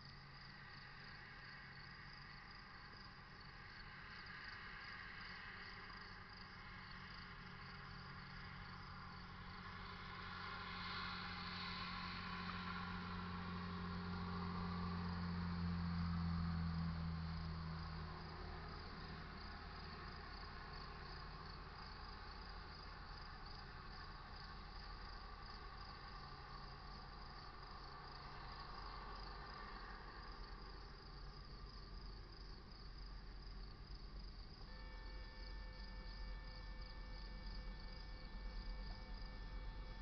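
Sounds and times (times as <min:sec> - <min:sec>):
night insects chirping: 0:00.0 - 0:40.0.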